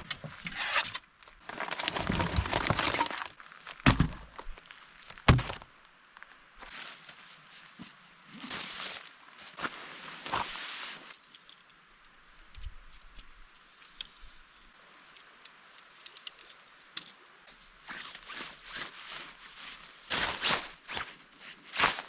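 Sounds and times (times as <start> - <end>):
camping gear rustling and scraping: 0.0 - 11.9, 15.8 - 22.0.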